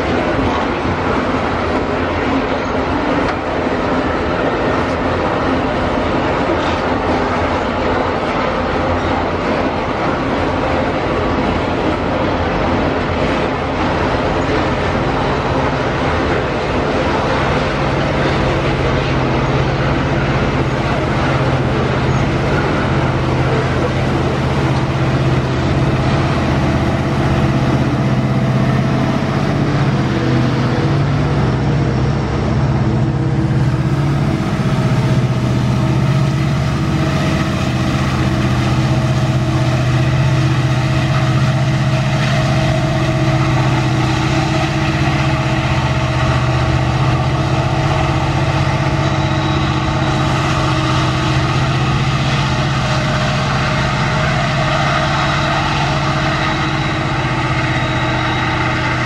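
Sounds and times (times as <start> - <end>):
locomotive engine droning: 0.0 - 59.0.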